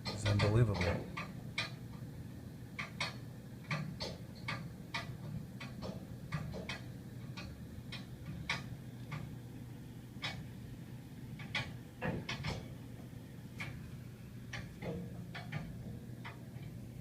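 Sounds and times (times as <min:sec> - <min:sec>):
heating pipes ticking: 0:00.0 - 0:17.0.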